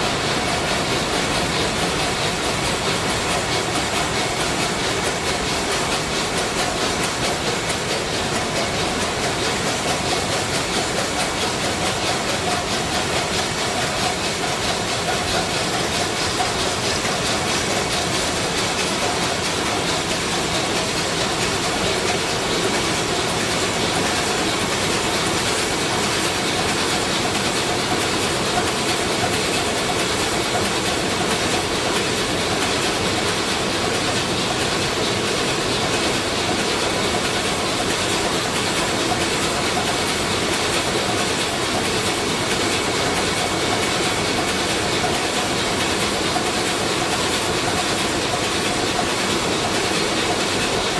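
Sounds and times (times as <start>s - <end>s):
marine diesel engine clattering: 0.0s - 50.9s.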